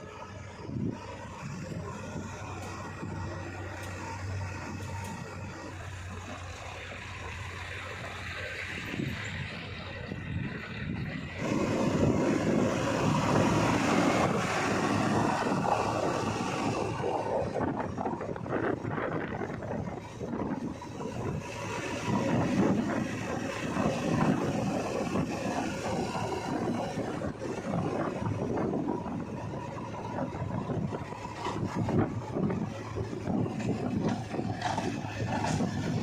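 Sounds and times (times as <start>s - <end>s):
heavy machinery diesel engine: 0.0s - 36.0s
wind buffeting microphone: 0.0s - 36.0s.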